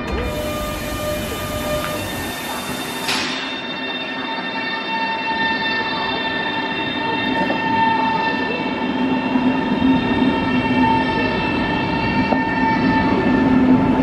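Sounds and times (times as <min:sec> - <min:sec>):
electric train whine: 0:00.0 - 0:14.0
train wheels rumbling: 0:00.0 - 0:14.0.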